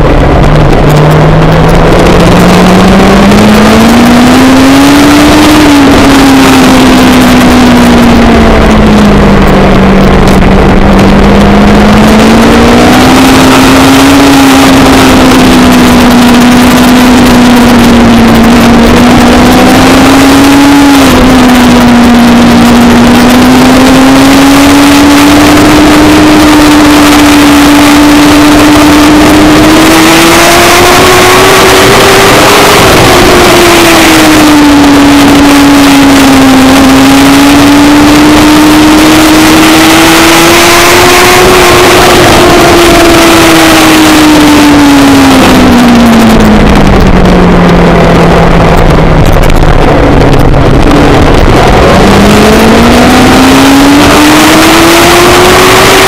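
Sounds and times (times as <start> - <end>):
racing engine at high revs: 0.0 - 56.0.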